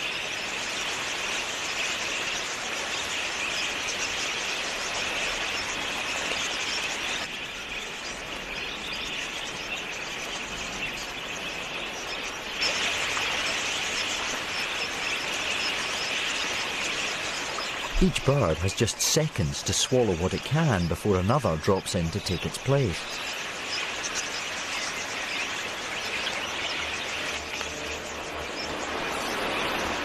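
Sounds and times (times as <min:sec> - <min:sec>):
flock of budgerigars chattering: 0:00.0 - 0:30.0.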